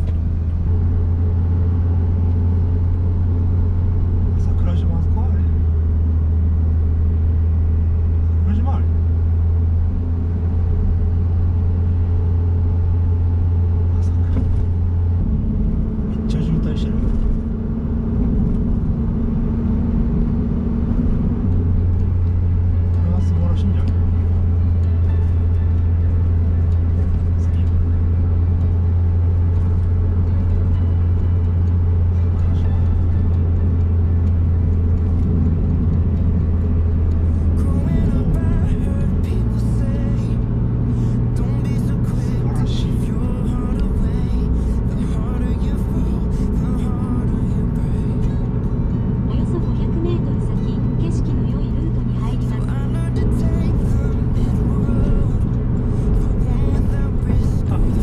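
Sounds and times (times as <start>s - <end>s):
car engine droning: 0.0s - 58.0s
road noise: 0.0s - 58.0s.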